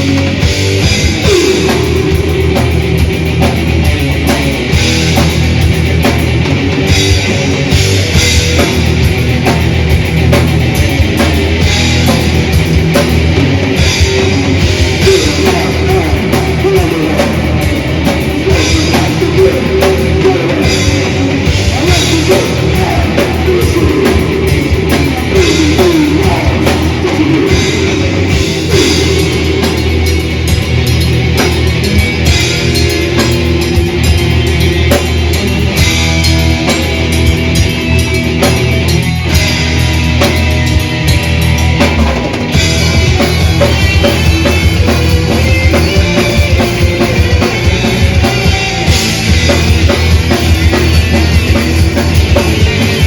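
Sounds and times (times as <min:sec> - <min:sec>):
metal band playing live: 0:00.0 - 0:53.0.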